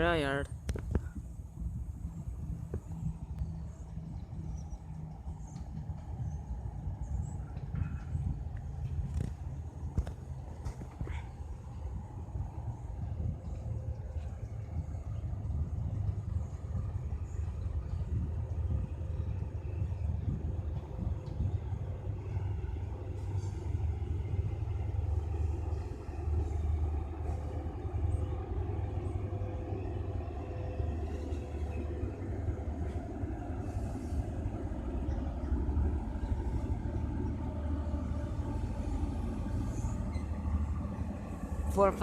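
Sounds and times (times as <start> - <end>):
train rumbling: 0.0 - 42.0.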